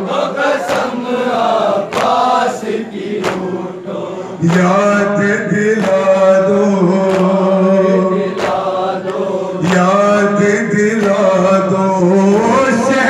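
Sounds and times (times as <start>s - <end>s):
men chanting together: 0.0s - 13.0s.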